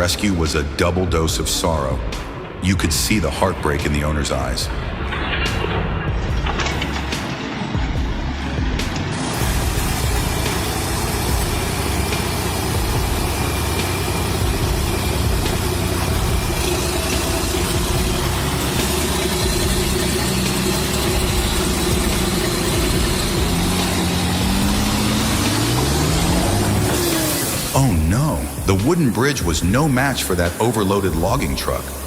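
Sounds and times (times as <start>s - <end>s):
noisy rumble: 0.0s - 32.0s
heavy vehicle engine revving: 4.6s - 32.0s.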